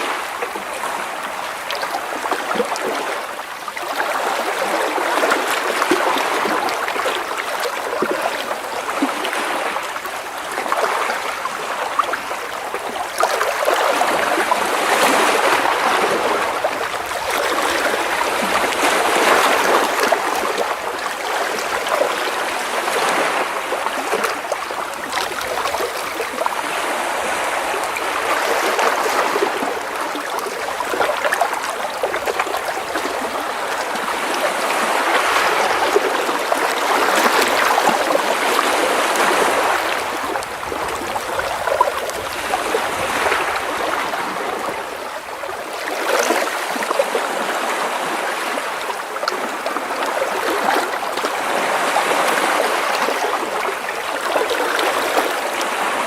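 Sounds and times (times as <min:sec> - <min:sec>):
waves splashing against rocks: 0:00.0 - 0:56.0.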